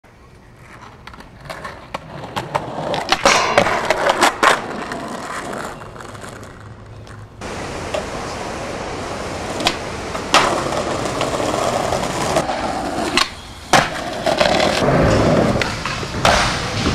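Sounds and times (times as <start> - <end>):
skateboard wheels rolling on asphalt: 0.1 - 16.9
skateboard clacking and scraping: 0.2 - 16.9.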